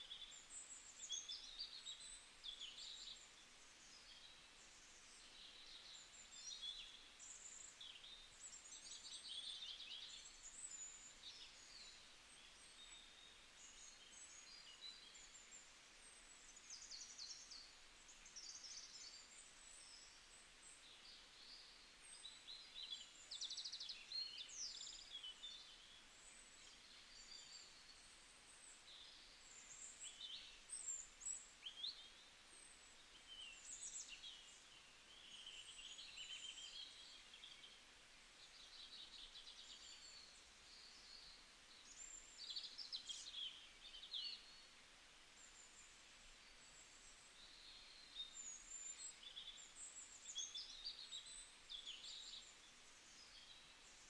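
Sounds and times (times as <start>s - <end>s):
low hiss: 0.0s - 54.0s
small birds chirping: 0.0s - 54.0s.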